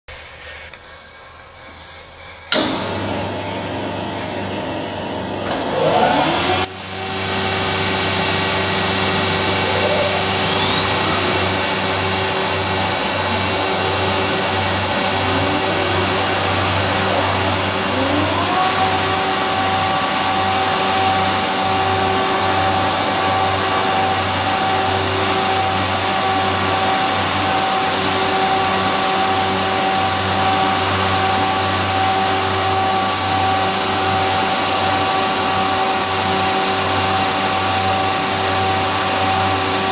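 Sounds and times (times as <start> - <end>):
cutter spindle rising whine: 0.8 - 39.9
planer machine humming: 1.6 - 39.9.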